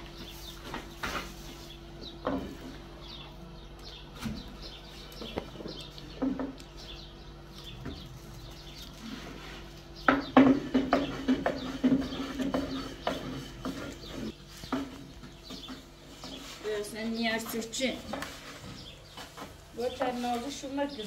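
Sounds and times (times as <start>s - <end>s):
low steady hum: 0.0s - 21.0s
small birds chirping: 0.0s - 21.0s.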